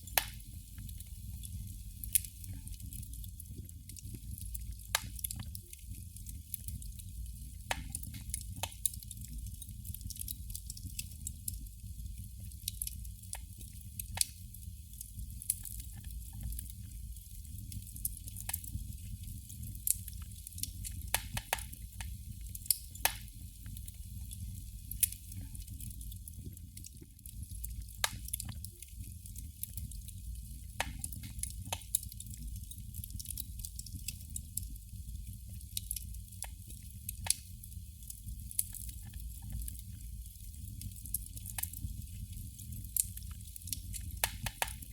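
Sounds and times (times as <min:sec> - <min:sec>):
candle flame crackling: 0:00.0 - 0:44.9.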